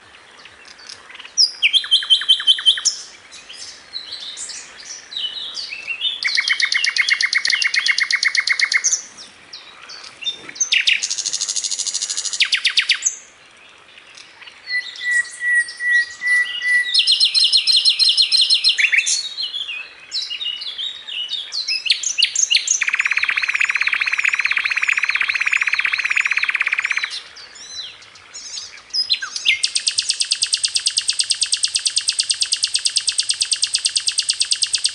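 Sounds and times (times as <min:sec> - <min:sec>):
songbird singing trills: 0:00.0 - 0:34.9.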